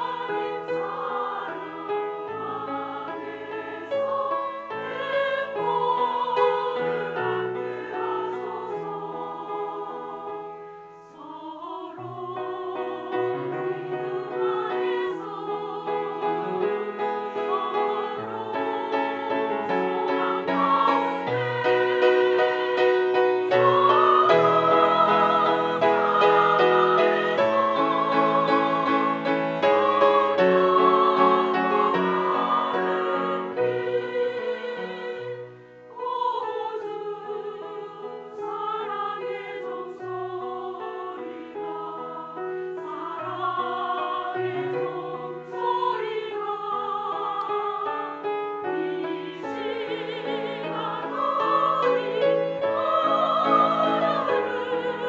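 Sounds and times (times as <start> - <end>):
women's choir singing a hymn: 0.0 - 55.0.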